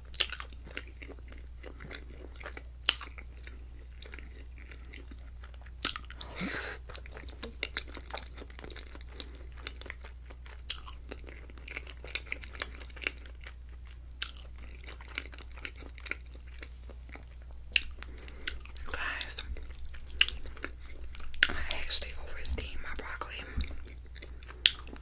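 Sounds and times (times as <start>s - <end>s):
chewing with wet mouth clicks: 0.0s - 25.0s.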